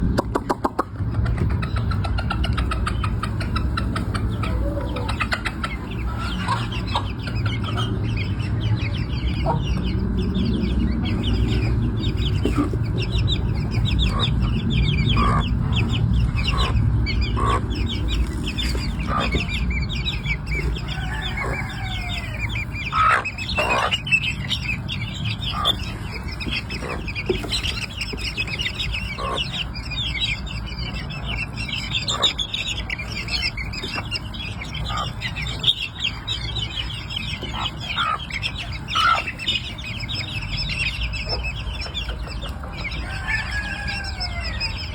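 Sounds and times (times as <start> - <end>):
chicks peeping: 0.0 - 44.9
hen clucking: 0.0 - 44.9
steady low rumble: 0.0 - 44.9.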